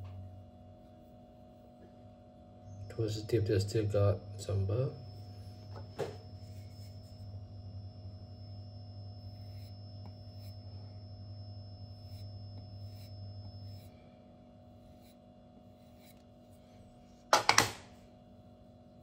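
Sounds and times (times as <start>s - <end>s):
low hum with high whine: 0.0s - 19.0s.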